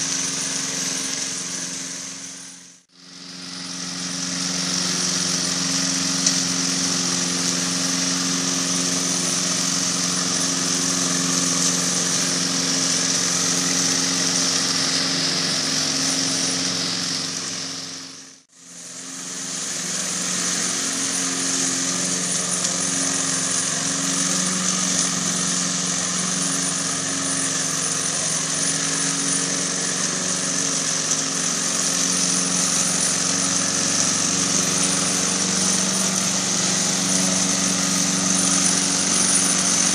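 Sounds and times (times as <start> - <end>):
lawn mower engine hum: 0.0 - 39.9.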